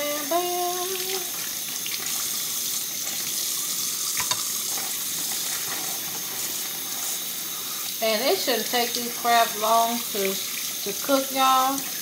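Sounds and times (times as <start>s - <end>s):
running water hissing: 0.0s - 12.0s.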